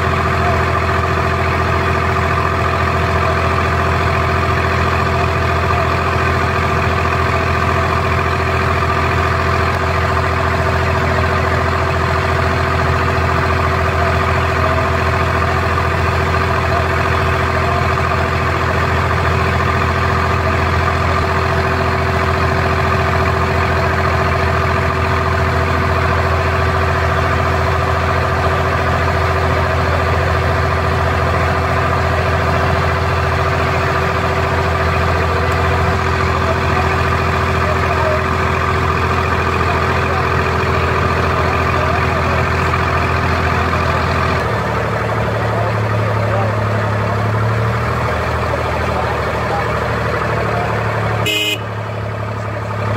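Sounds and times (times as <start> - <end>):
boat diesel engine drone: 0.0 - 52.9.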